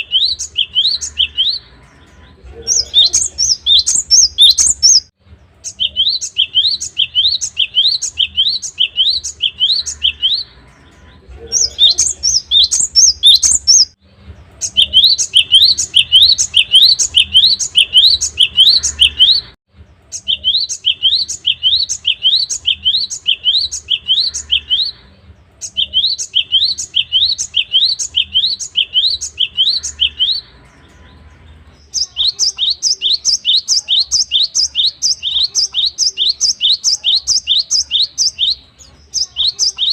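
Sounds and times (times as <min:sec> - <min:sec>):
bird singing sharp repeated notes: 0:00.0 - 0:39.9.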